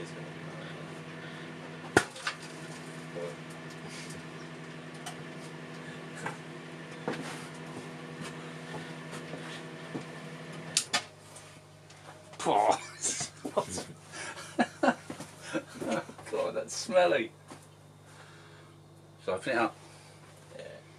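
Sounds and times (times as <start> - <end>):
microwave oven humming: 0.0 - 20.9.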